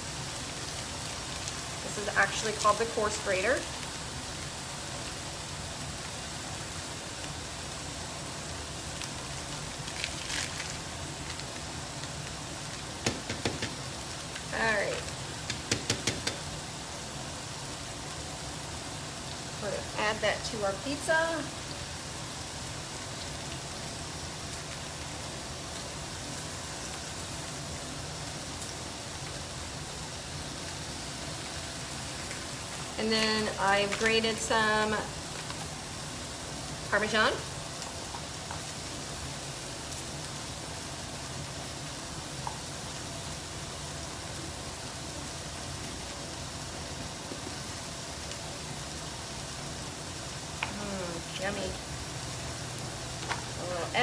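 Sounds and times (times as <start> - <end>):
chicken sizzling in frying pan: 0.0 - 54.0.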